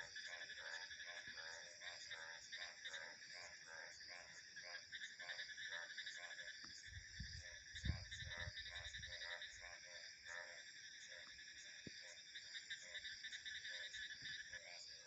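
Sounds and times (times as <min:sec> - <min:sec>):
frogs croaking: 0:00.0 - 0:15.0
insects trilling: 0:00.0 - 0:15.0.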